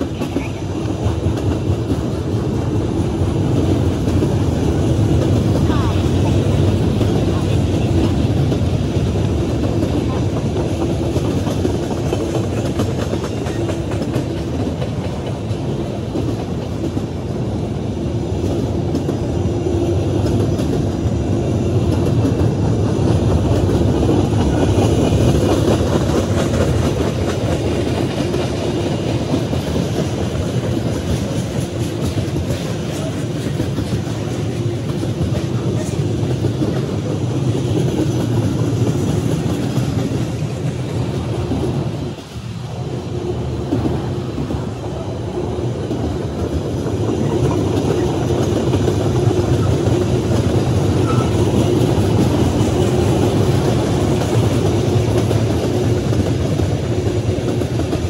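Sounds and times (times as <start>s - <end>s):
freight cars rumbling on rails: 0.0s - 58.0s.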